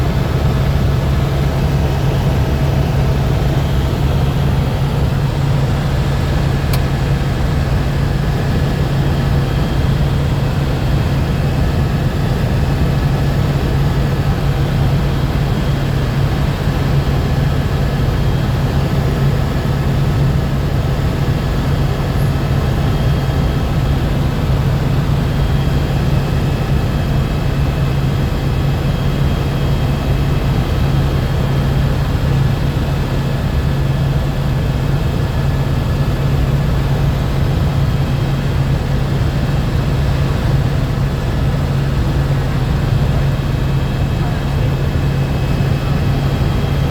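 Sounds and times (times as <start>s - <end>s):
helicopter rotor and engine drone: 0.0s - 46.9s.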